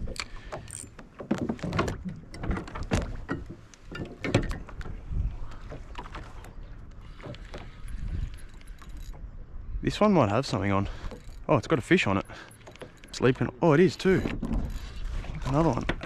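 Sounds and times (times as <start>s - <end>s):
fishing rods and reels knocking: 0.0s - 9.4s, 10.4s - 16.0s.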